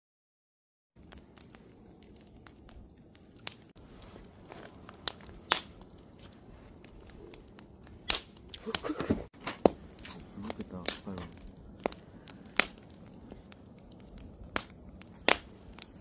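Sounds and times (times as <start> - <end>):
campfire crackling: 1.0 - 16.0.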